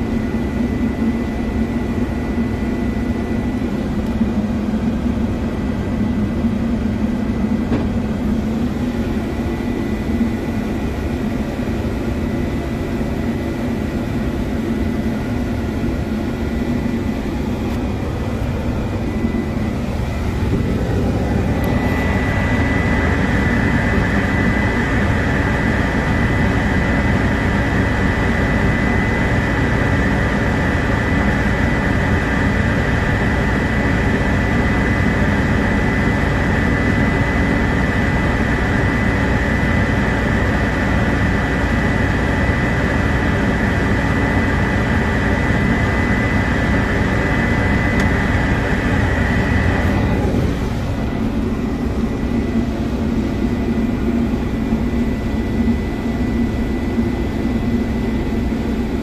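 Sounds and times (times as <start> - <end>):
crane engine running: 0.0 - 59.0
high whine: 0.0 - 59.0.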